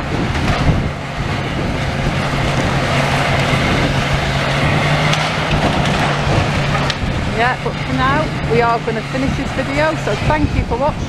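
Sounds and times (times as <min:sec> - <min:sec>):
large engine running steadily: 0:00.0 - 0:11.0
wind: 0:00.0 - 0:11.0.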